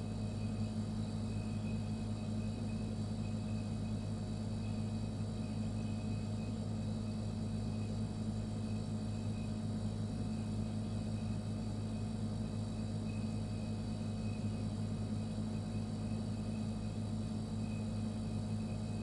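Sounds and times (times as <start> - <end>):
refrigerator humming: 0.0 - 19.0.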